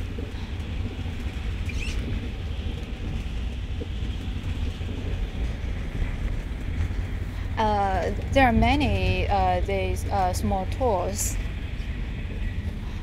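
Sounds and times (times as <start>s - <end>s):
rumble and hiss inside train: 0.0s - 13.0s.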